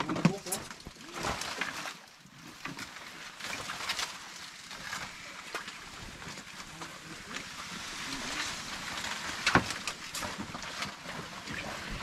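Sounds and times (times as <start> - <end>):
water splashing around boat: 0.0 - 12.0.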